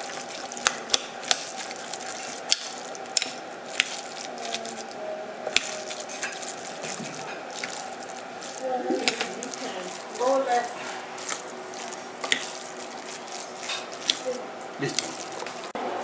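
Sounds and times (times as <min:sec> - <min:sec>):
food mixture squishing: 0:00.0 - 0:15.8.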